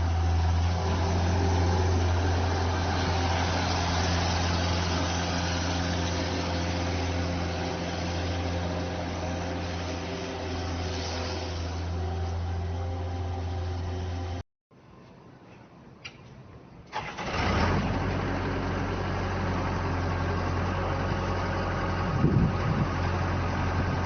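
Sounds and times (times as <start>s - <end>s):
skid steer loader engine running: 0.0s - 14.4s, 17.4s - 24.0s.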